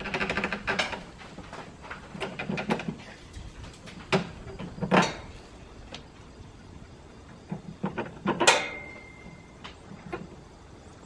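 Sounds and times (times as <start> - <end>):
knocks and clatter of work: 0.0 - 6.2, 7.3 - 10.4.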